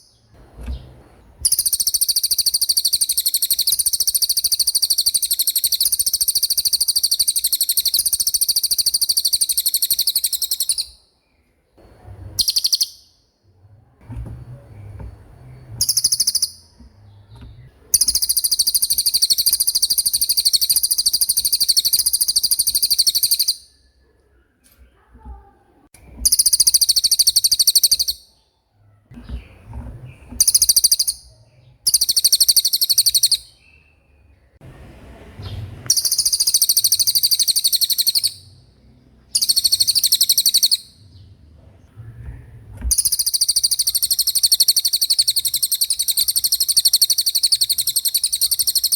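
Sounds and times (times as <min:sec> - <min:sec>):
songbird singing rolling trills: 0:00.0 - 0:11.4, 0:12.1 - 0:13.3, 0:14.5 - 0:24.3, 0:26.0 - 0:34.7, 0:35.4 - 0:48.9.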